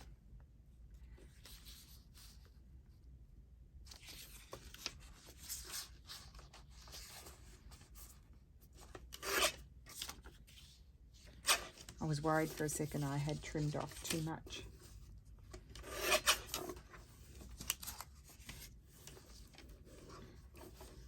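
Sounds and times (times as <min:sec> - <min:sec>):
paper rustling and scraping: 0:01.1 - 0:02.6, 0:03.8 - 0:21.0.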